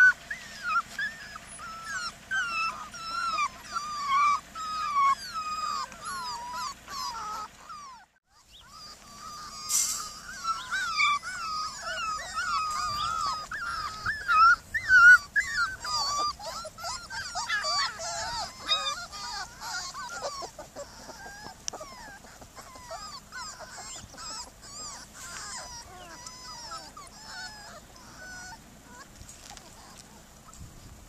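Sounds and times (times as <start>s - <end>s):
puppies whining and whimpering: 0.0s - 31.0s.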